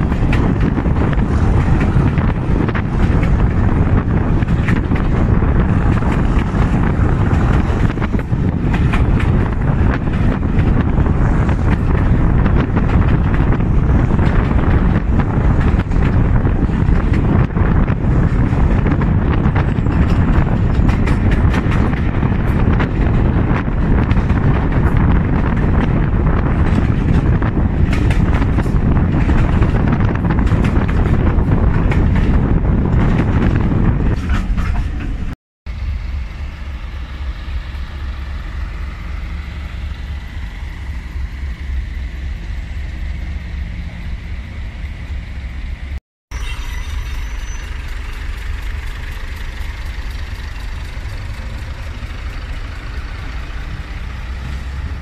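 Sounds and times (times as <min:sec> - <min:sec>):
steady low rumble: 0:00.0 - 0:46.0
wind rushing past: 0:00.0 - 0:46.0
train wheels clattering on track: 0:00.0 - 0:55.0.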